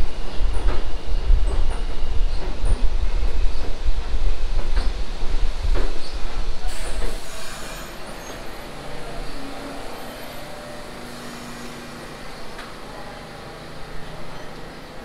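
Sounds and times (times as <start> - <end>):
subway cars rumbling on rails: 0.0 - 15.0.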